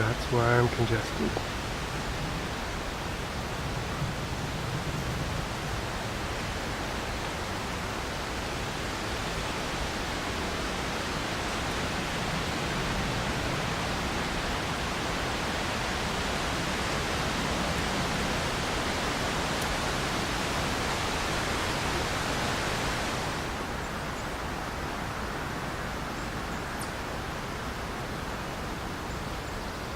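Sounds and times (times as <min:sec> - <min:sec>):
wind gusting through trees: 0:00.0 - 0:29.9.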